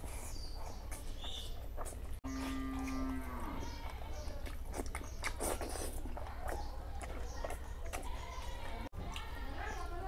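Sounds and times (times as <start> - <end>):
wet chewing and smacking: 0.0 - 10.0.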